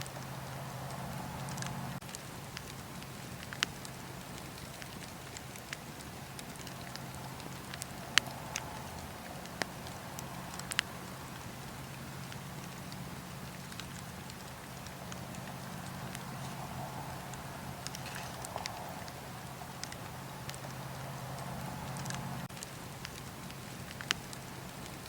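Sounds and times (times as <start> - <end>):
soft hiss of fire: 0.0 - 25.0
wood fire crackling and popping: 0.0 - 25.0.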